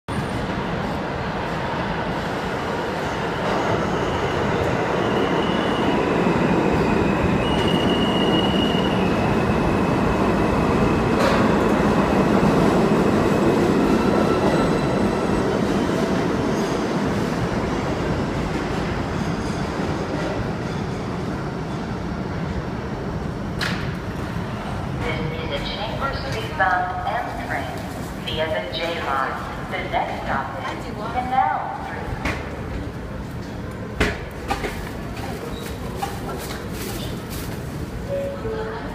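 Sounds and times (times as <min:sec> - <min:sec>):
subway train wheels rumbling: 0:00.1 - 0:38.9.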